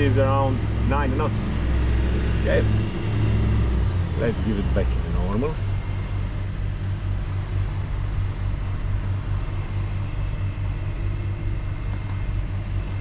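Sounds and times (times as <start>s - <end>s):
boat diesel engines droning: 0.0s - 13.0s.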